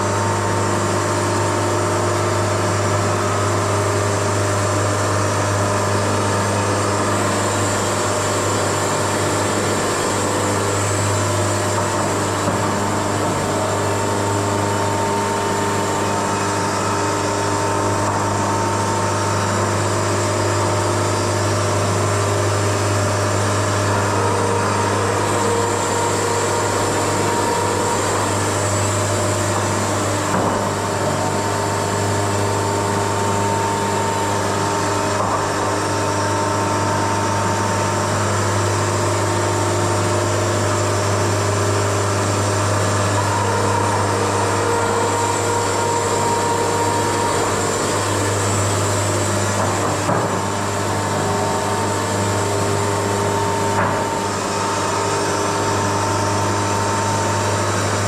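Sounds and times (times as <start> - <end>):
band sawmill running: 0.0 - 58.0.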